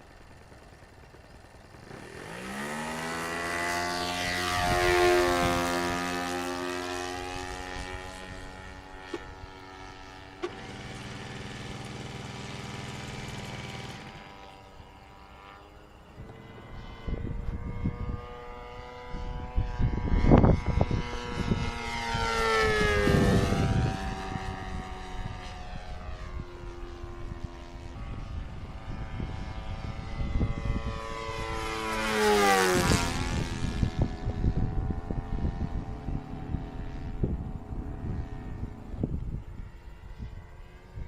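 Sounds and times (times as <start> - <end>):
model airplane engine droning: 0.0 - 41.0
wind buffeting microphone: 1.9 - 12.4, 16.1 - 41.0.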